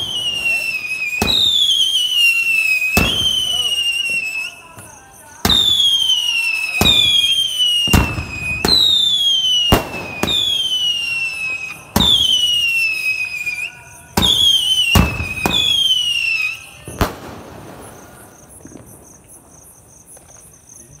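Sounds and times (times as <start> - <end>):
shrill firework whistle: 0.0 - 18.6
firework bangs: 0.0 - 20.6.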